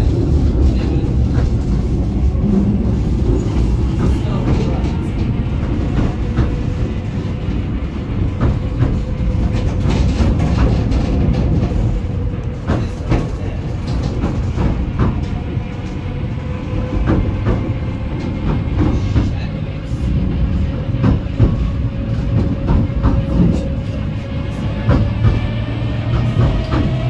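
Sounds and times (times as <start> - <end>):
track clicks and clacks: 0.0 - 27.0
train wheels rumbling on rails: 0.0 - 27.0.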